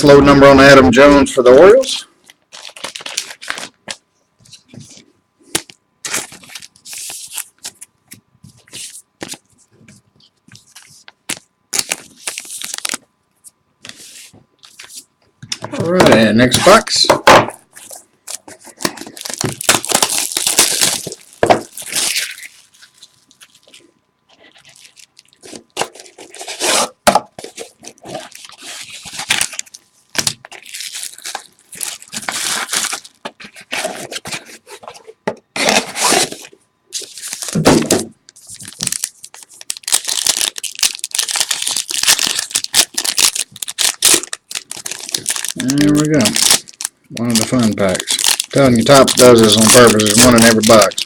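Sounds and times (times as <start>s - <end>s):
plastic wrappers ripping and crinkling: 1.8s - 7.9s, 10.5s - 13.1s, 17.8s - 51.0s.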